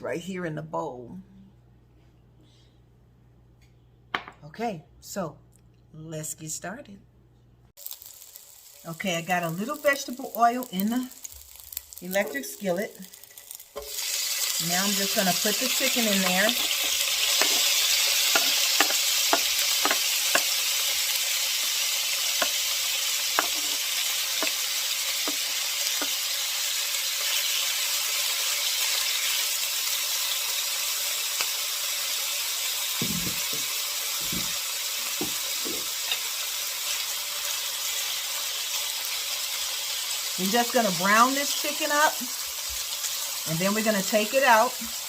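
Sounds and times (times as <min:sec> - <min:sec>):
chicken sizzling in oil: 0:07.8 - 0:45.0.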